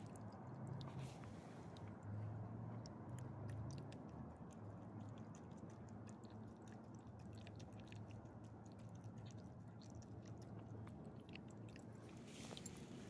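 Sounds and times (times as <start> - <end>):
dog licking and chewing food: 0.0 - 13.0
low steady hum: 0.0 - 13.0.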